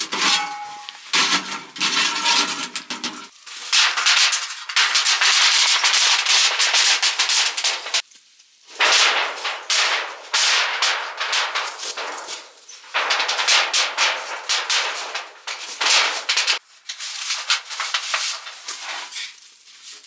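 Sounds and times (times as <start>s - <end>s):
dry leaves and gravel crunching: 0.0s - 20.0s.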